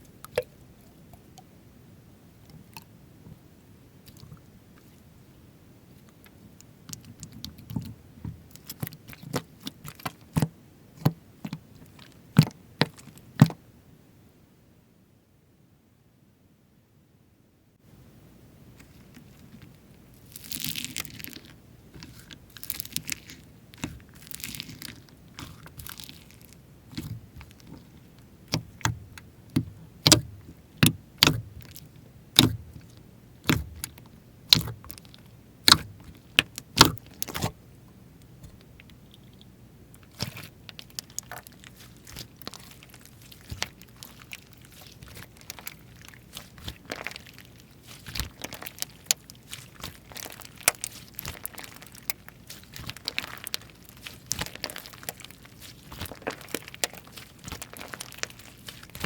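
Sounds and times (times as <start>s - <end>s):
slime squishing: 4.0s - 5.1s, 5.9s - 13.6s, 18.8s - 37.6s, 38.2s - 59.0s.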